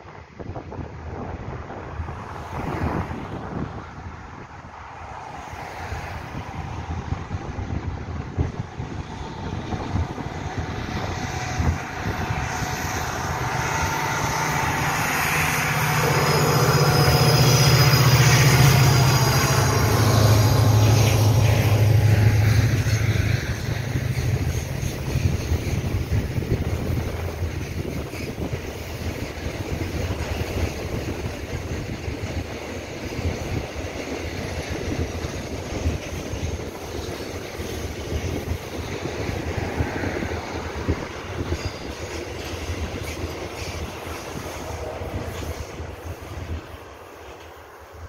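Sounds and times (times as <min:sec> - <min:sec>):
diesel locomotive engine drone: 0:00.0 - 0:48.0
freight wagons rumbling on rails: 0:00.0 - 0:48.0.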